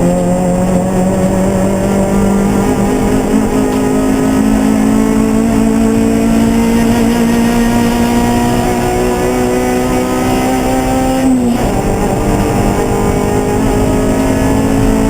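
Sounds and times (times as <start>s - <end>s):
race car engine at high revs: 0.0s - 15.0s
road and wind noise: 0.0s - 15.0s.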